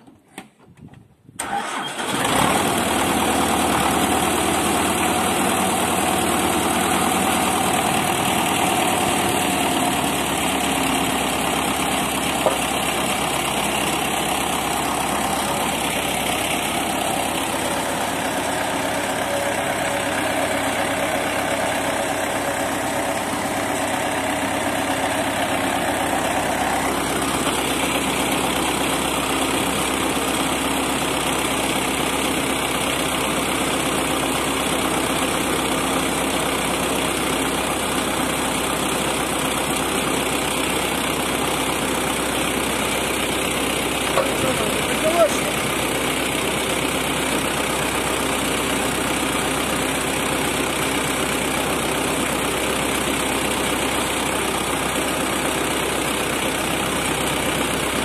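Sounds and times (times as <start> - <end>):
engine starting and idling: 1.3 - 58.0.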